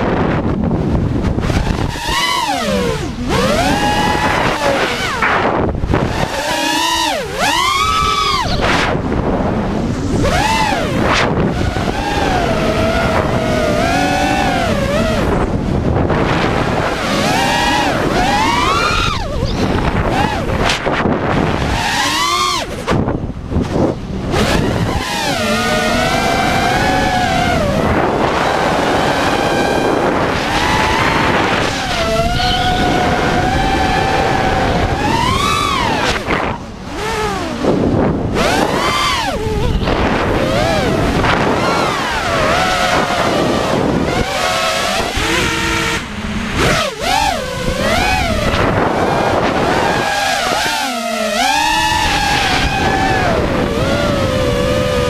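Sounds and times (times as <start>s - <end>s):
drone motors whining: 0.0s - 55.0s
wind rush: 0.0s - 55.0s.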